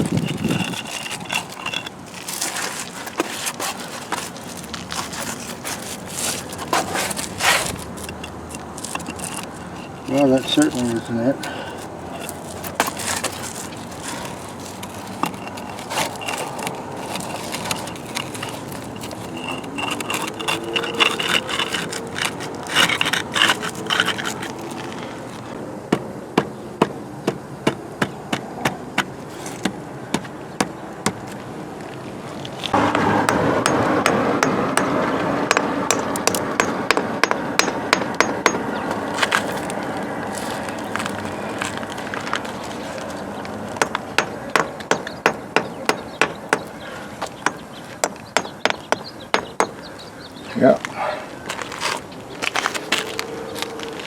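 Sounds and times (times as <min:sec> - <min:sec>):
stones knocking and scraping: 0:00.0 - 0:49.7, 0:50.6 - 0:54.0.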